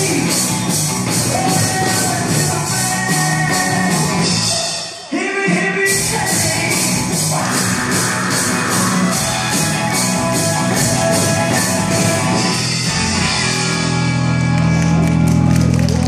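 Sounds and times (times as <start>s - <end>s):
drum ensemble playing: 0.0s - 4.9s, 5.5s - 14.1s
rock music: 0.0s - 16.0s.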